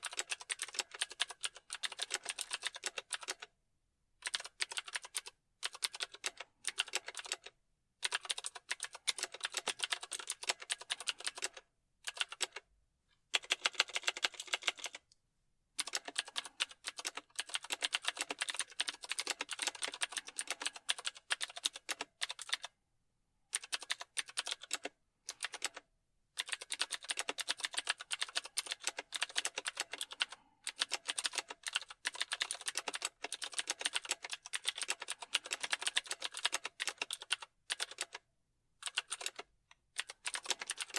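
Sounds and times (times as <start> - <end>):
computer keyboard typing: 0.0 - 3.5, 4.2 - 12.7, 13.3 - 15.2, 15.8 - 22.8, 23.5 - 25.8, 26.4 - 40.9.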